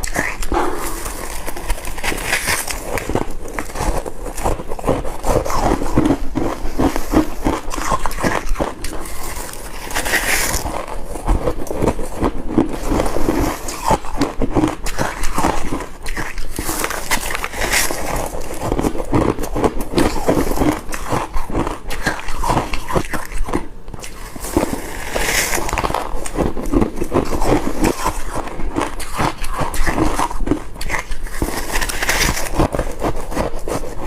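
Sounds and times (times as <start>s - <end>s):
person crunching ice: 0.0s - 34.0s.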